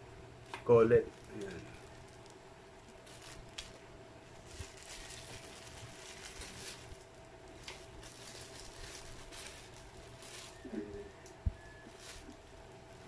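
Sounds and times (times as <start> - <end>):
plastic bag crinkling: 0.4 - 13.0.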